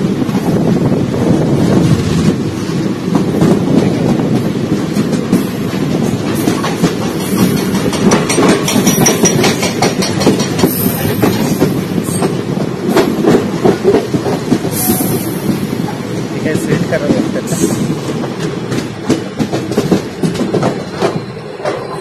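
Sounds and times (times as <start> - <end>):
train rumbling: 0.0 - 22.0
wheels clacking over rail joints: 2.7 - 22.0.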